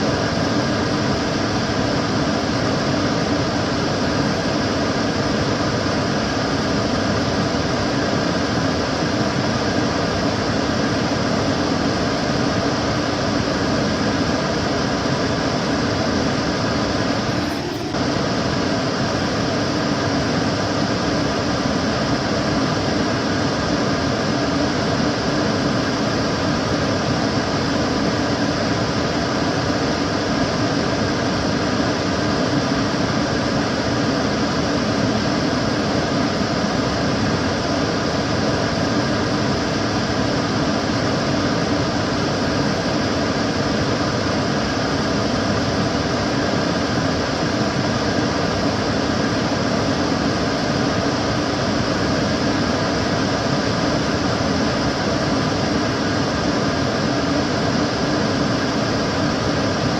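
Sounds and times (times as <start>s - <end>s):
extractor fan running: 0.0s - 59.9s.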